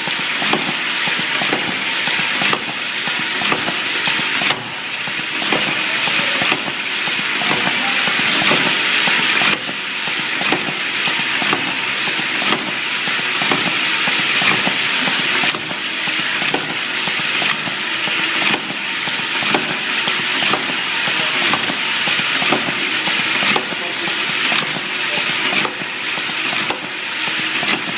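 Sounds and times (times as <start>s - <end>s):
cap-pressing machine rattling: 0.0s - 27.9s
machine clicking: 0.0s - 27.9s.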